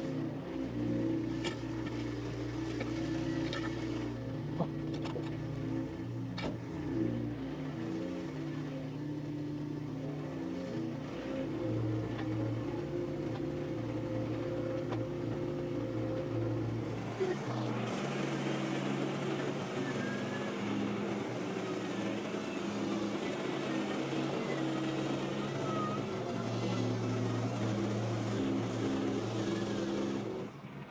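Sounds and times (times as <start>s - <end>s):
machine engine running: 0.0s - 30.9s.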